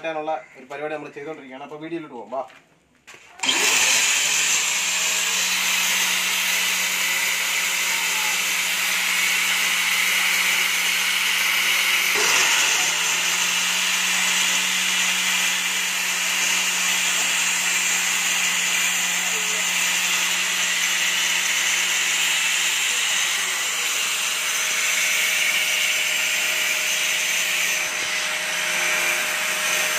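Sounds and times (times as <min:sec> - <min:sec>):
angle grinder grinding metal: 0:03.4 - 0:29.9.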